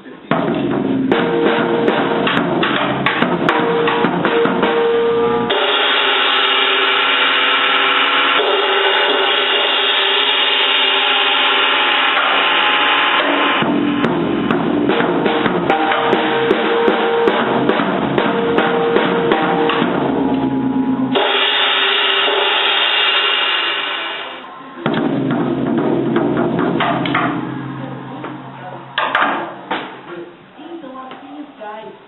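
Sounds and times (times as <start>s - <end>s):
drums being banged: 0.2s - 30.1s
cymbals ringing: 0.3s - 30.1s.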